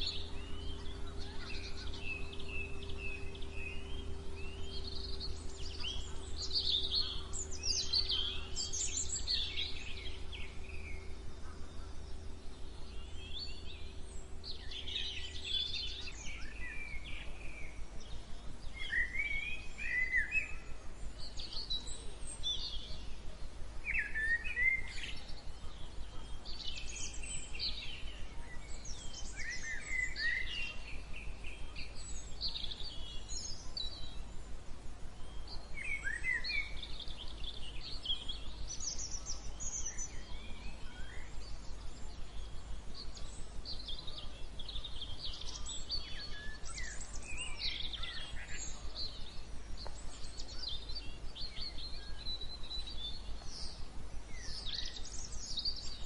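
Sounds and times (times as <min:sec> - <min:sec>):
low steady hum: 0:00.0 - 0:56.0
songbirds singing: 0:00.0 - 0:56.0.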